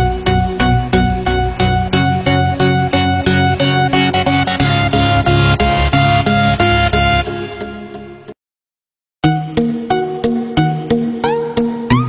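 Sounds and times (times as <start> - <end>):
background music with quick notes: 0.0 - 8.4, 9.2 - 12.0.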